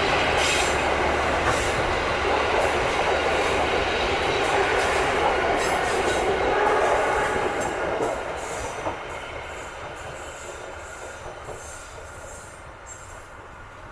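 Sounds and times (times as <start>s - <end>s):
train rolling along rails: 0.0s - 13.9s.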